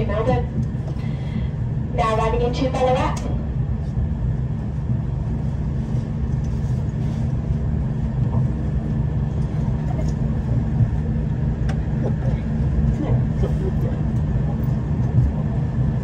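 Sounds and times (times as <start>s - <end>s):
train engine hum and rumble: 0.0s - 16.0s.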